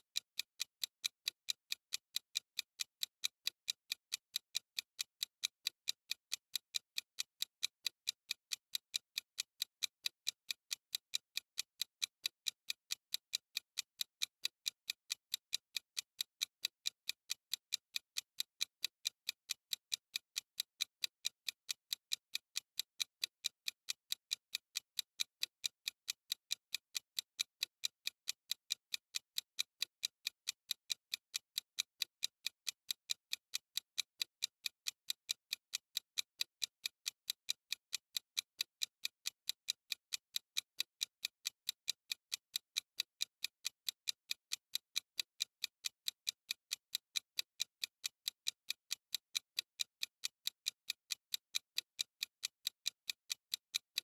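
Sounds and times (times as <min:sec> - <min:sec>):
clock ticking: 0:00.2 - 0:54.0.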